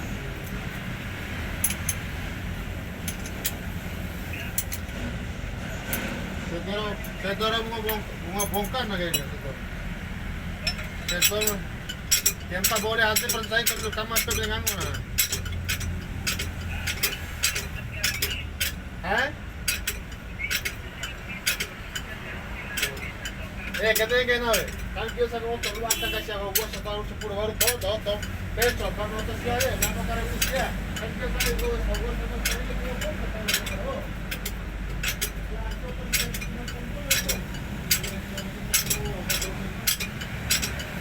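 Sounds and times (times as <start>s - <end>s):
low engine rumble: 0.0s - 41.0s
steady low hum: 0.0s - 41.0s
sharp metallic clinks: 1.5s - 2.2s, 3.0s - 3.7s, 4.3s - 5.0s, 7.0s - 9.5s, 10.6s - 41.0s.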